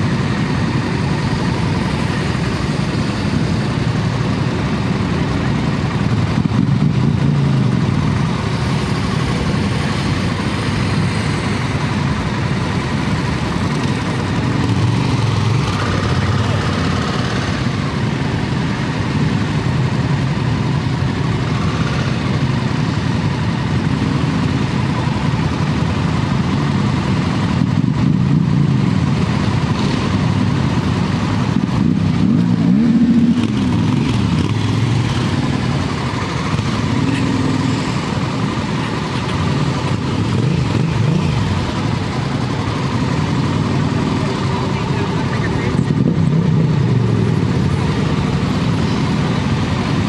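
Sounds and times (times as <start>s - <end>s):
motorcycle engines running: 0.0s - 50.0s.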